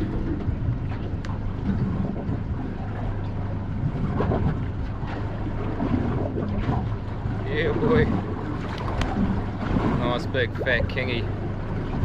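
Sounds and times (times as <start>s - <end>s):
steady low hum: 0.0s - 12.0s
water around a boat: 0.0s - 12.0s
wind buffeting microphone: 0.0s - 12.0s.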